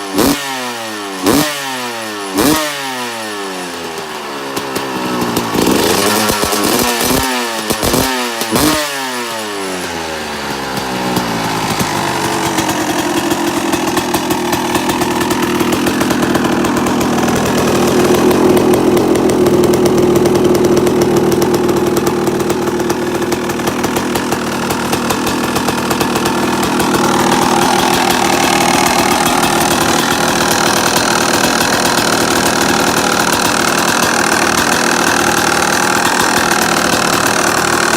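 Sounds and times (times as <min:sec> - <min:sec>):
two-stroke motorcycle engine revving: 0:00.0 - 0:37.9.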